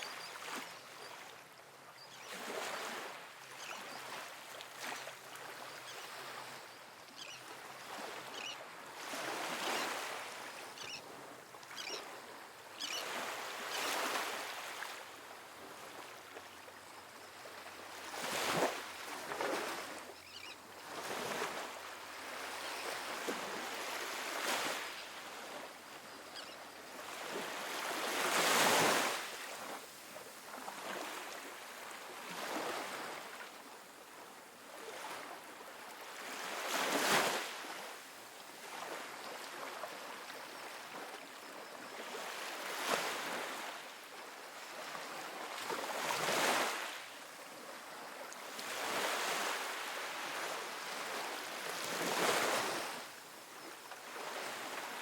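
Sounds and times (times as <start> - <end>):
small waves washing up beach: 0.0 - 55.0.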